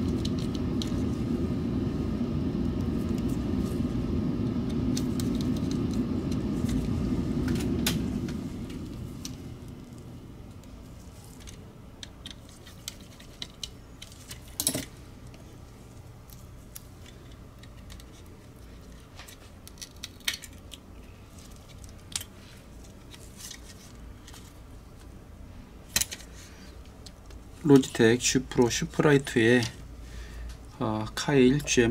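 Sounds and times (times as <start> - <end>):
faint low hum: 0.0 - 31.9.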